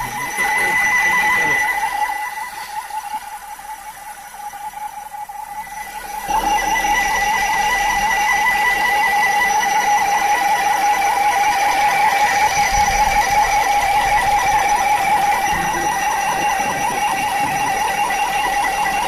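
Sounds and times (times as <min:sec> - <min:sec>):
high-pitched warbling squeal: 0:00.0 - 0:19.0.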